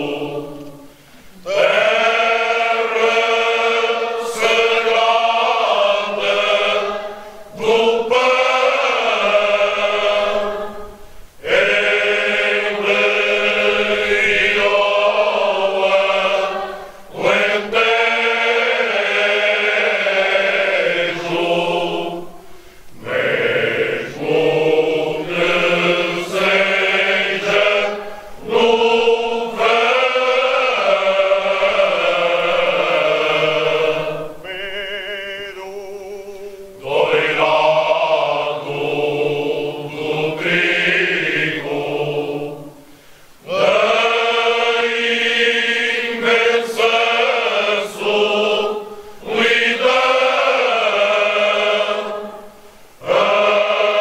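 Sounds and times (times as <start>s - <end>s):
slow chanted singing: 0.0s - 54.0s.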